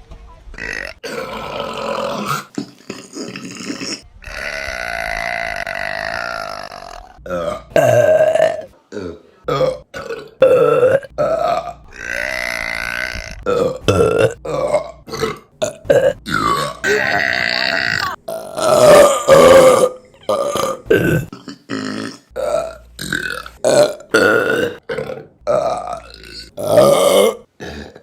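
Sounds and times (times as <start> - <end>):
woman burping: 0.6 - 28.0.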